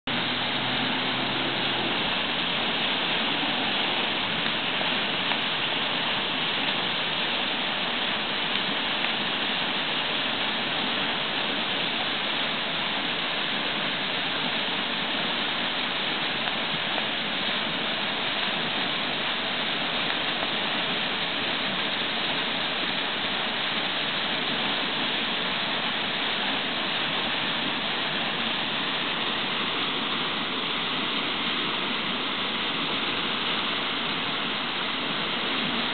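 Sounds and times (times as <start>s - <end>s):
river water rushing over a dam: 0.0s - 35.9s.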